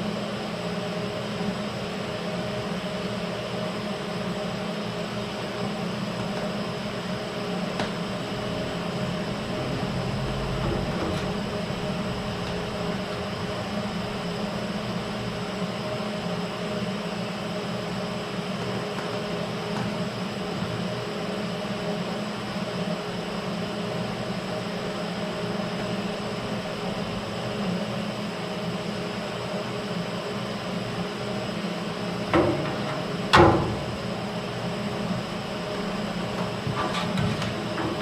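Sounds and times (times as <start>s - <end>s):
shop machinery humming: 0.0s - 38.0s.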